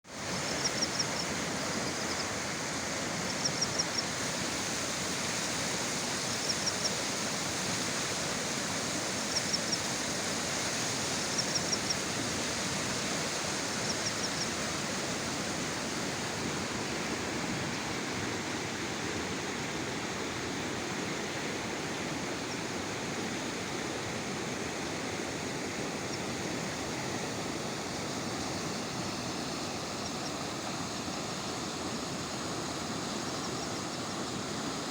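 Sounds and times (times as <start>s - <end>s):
river rushing roar: 0.1s - 34.9s.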